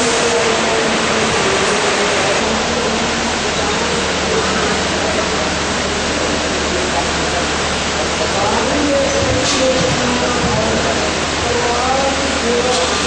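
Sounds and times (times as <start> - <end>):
loud steady rushing noise: 0.0 - 13.0.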